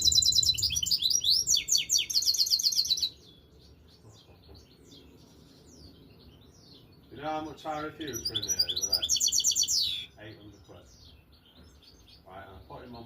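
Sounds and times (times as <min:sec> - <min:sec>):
bird singing fast trilling song: 0:00.0 - 0:13.0
faint bird chirps: 0:00.0 - 0:13.0.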